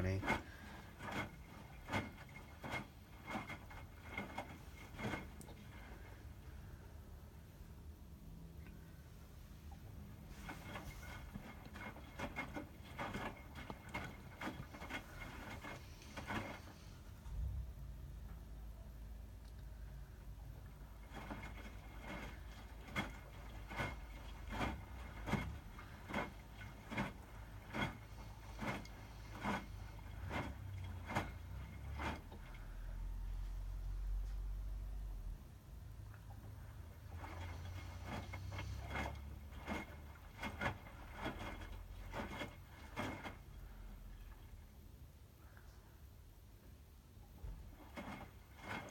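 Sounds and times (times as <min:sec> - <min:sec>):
towels and water swishing in drum: 0:00.0 - 0:45.6, 0:46.4 - 0:48.9
washing machine low hum: 0:00.0 - 0:48.9.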